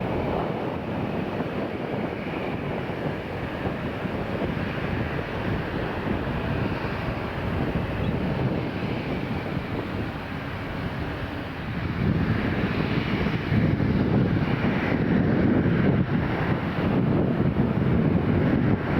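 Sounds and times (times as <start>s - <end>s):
jet engines roaring: 0.0s - 18.9s
wind on microphone: 0.0s - 18.9s.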